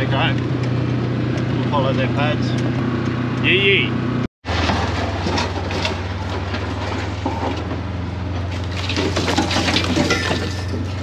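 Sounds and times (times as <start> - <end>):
buggy engine droning: 0.0 - 11.0.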